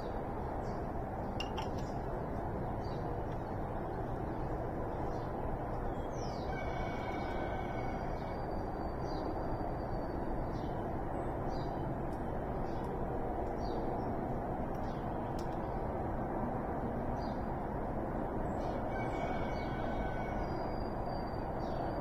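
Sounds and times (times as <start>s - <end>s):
low background rush: 0.0s - 22.0s.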